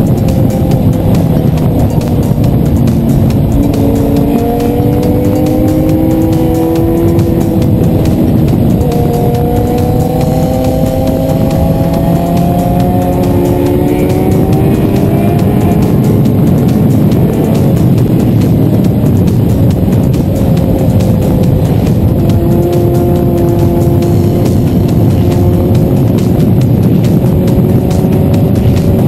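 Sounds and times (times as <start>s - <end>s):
motorcycle engine accelerating hard: 0.0s - 29.0s
wind rushing: 0.0s - 29.0s.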